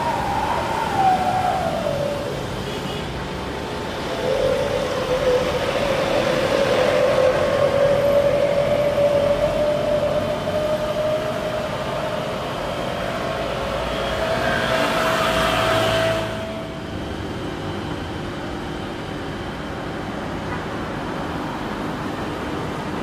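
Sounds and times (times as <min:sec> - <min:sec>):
jet engine drone on approach: 0:00.0 - 0:23.0
jet engines at takeoff power: 0:00.0 - 0:23.0.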